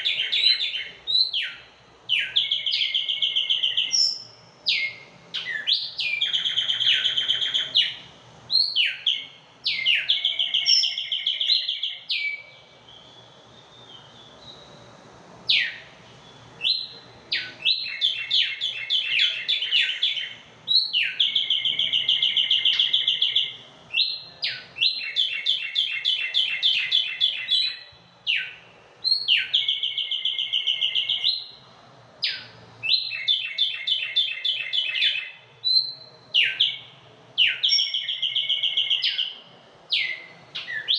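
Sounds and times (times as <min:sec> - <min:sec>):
songbirds trilling: 0:00.0 - 0:31.6, 0:32.2 - 0:40.9.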